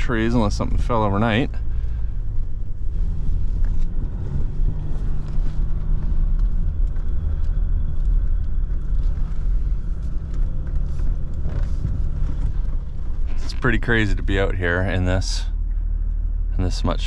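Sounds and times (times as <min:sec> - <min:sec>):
engine and drivetrain rumble: 0:00.0 - 0:17.0.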